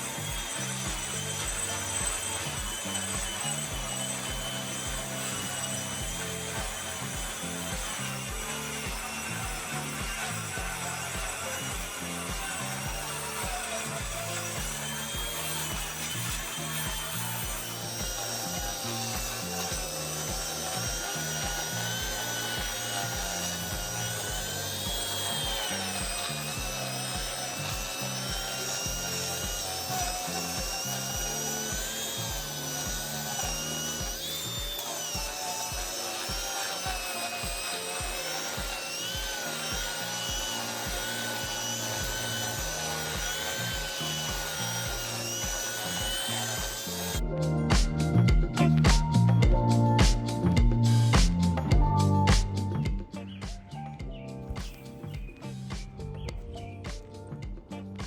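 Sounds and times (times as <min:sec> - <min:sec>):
background music with beat: 0:00.0 - 0:58.0
concrete grinder whining: 0:00.0 - 0:58.0.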